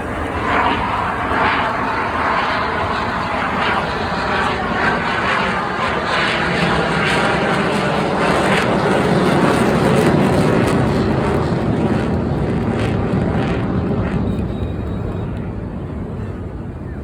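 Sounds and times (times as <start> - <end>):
plane flying past: 0.0 - 17.0.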